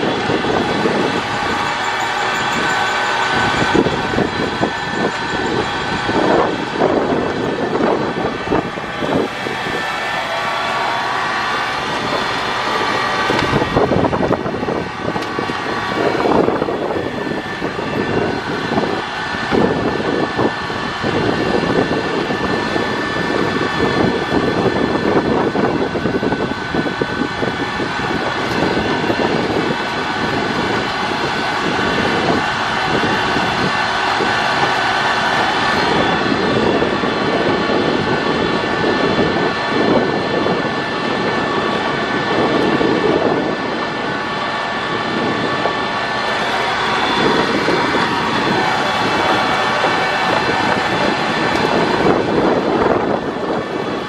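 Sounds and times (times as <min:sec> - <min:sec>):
steady whining tones: 0:00.0 - 0:54.0
train rumbling and rattling: 0:00.0 - 0:54.0.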